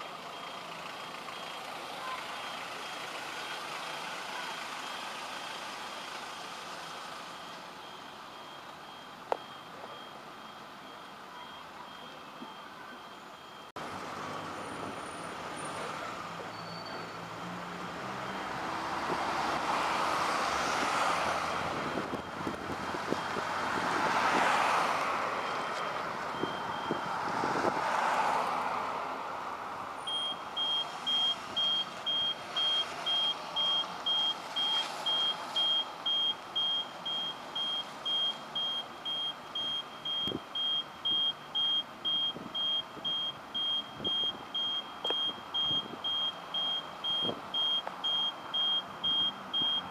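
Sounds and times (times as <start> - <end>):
traffic noise inside bus: 0.0 - 49.9.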